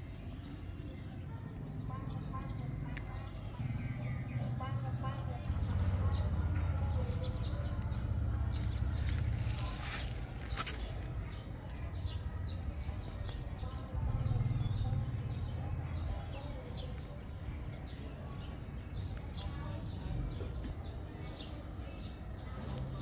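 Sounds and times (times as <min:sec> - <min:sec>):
low outdoor rumble: 0:00.0 - 0:21.2
small birds chirping: 0:00.0 - 0:23.0.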